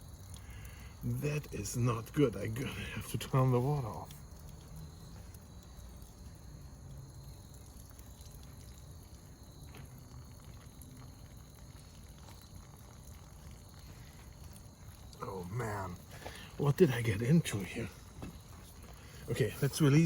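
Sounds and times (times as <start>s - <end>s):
water hissing from hose coupling: 0.0s - 20.0s.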